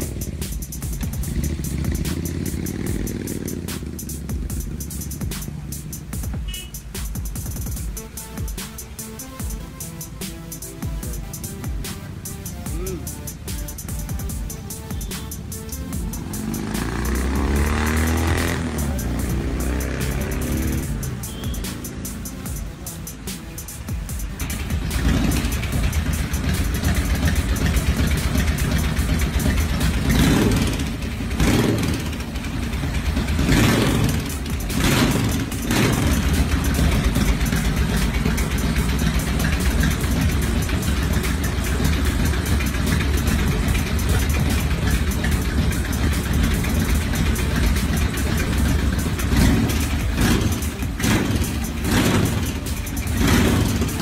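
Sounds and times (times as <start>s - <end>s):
v-twin engine revving: 0.0s - 54.0s.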